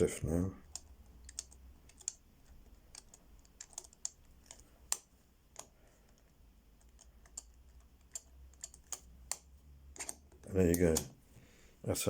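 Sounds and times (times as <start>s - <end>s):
padlock number wheels clicking: 0.6s - 11.2s.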